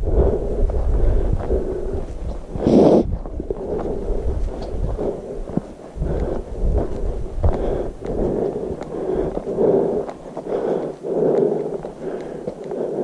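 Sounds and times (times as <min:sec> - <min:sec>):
wind rumbling on microphone: 0:00.0 - 0:10.7
footsteps on dirt trail: 0:00.0 - 0:13.0.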